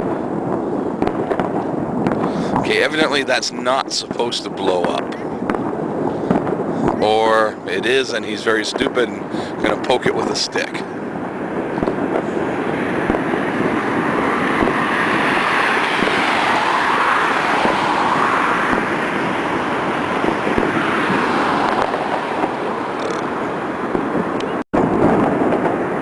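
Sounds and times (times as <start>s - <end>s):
fireworks and firecrackers: 0.0s - 26.0s.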